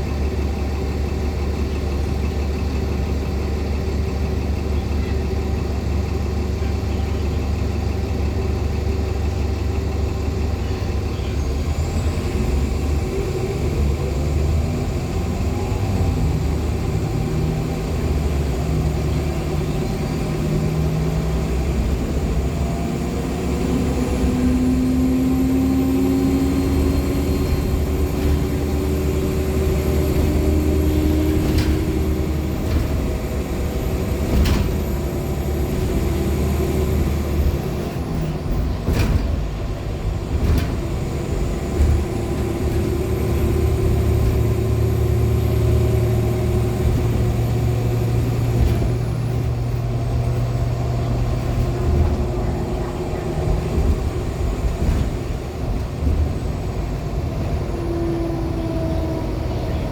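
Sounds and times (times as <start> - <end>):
bus engine humming: 0.0 - 59.9.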